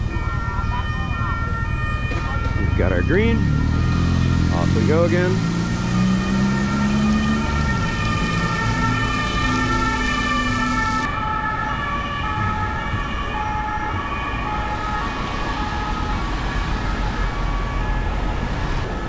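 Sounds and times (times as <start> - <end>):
city traffic rumble: 0.0 - 19.0
two-tone police siren wailing: 0.0 - 19.0.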